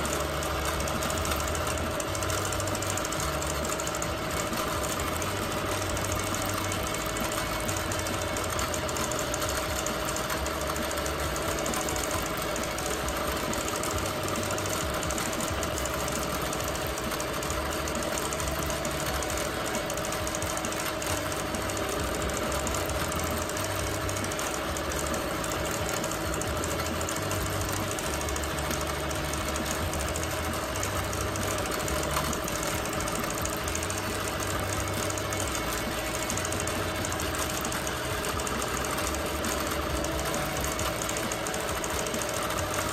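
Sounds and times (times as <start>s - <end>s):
quilting machine stitching: 0.0s - 42.9s.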